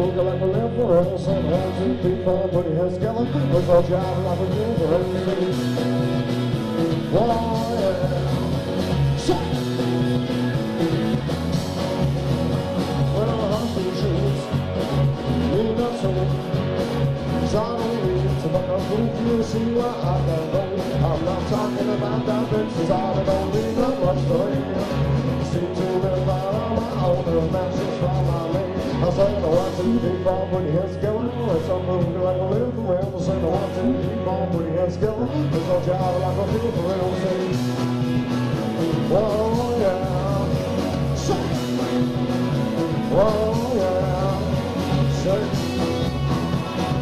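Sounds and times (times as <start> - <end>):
person singing: 0.0 - 11.2, 12.7 - 16.7, 17.3 - 47.0
bass line: 0.0 - 47.0
drums steady beat: 0.0 - 47.0
guitar: 0.0 - 47.0.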